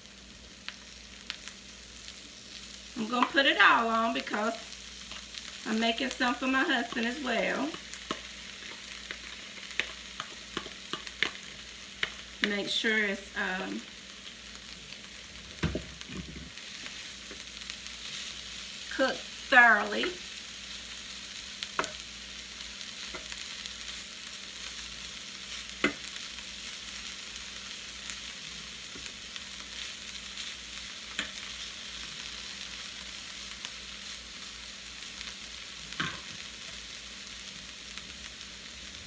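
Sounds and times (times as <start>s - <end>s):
food sizzling on a grill: 0.0s - 39.0s.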